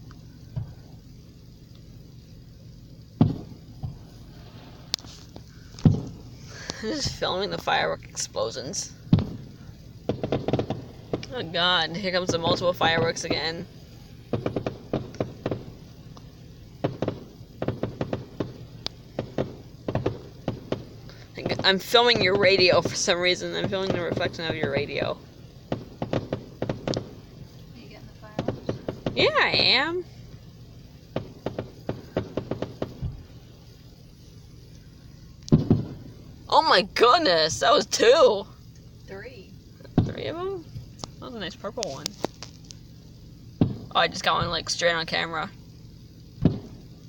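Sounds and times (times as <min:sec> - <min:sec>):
fireworks shells bursting: 0:00.0 - 0:47.0.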